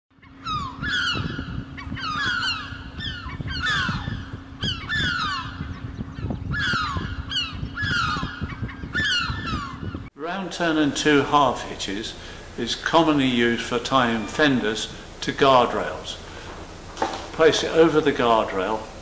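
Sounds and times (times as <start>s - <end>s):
birds calling: 0.1s - 10.1s, 10.7s - 19.0s
steady low hum: 0.2s - 19.0s.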